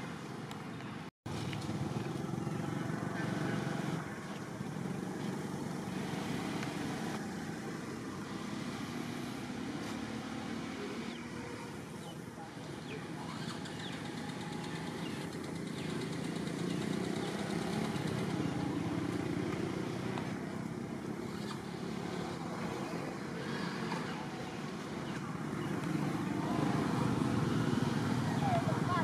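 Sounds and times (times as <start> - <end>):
distant traffic rumble: 0.0 - 29.0.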